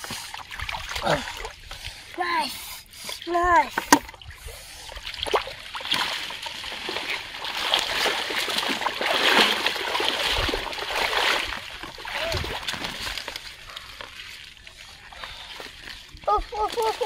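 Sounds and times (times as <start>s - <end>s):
shallow water splashing: 0.0s - 2.2s, 3.2s - 17.0s.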